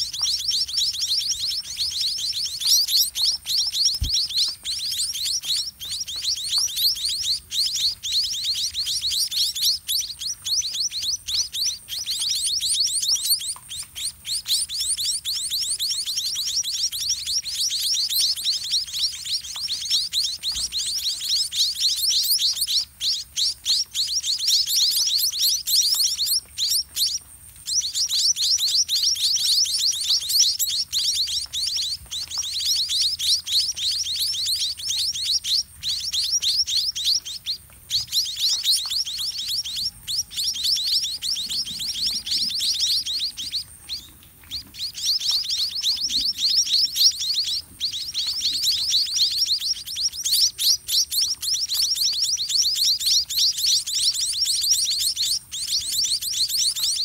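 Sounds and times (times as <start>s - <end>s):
nestlings cheeping: 0.0s - 57.0s.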